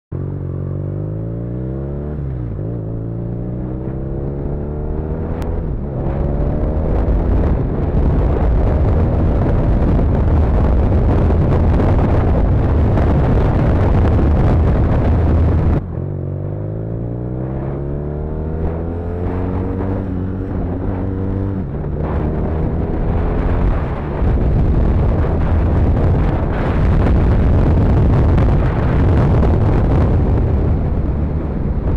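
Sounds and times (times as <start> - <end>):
motorcycle engine accelerating: 0.1 - 31.9
wind rushing: 1.8 - 31.9.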